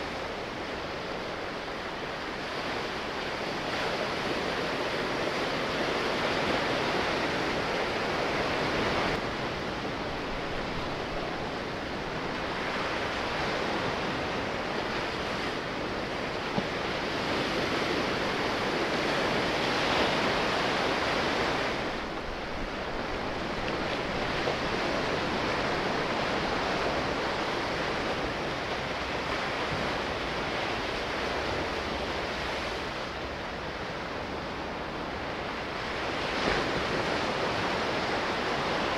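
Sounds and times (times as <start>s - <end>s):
sea waves washing: 0.0s - 38.9s.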